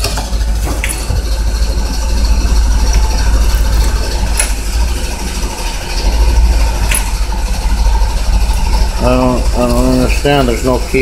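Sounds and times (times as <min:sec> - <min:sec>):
truck engine turning over: 0:00.0 - 0:11.0.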